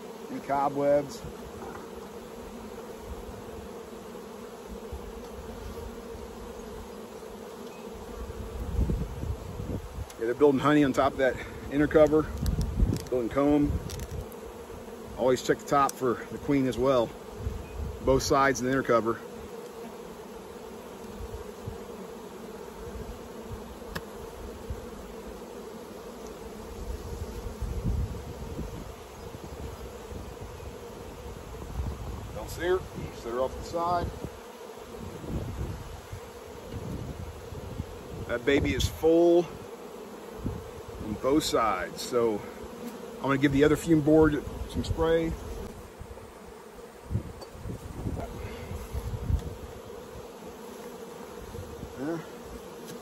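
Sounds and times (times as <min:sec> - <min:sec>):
honeybees buzzing: 0:00.0 - 0:53.0
low bumps of hive box: 0:00.0 - 0:53.0.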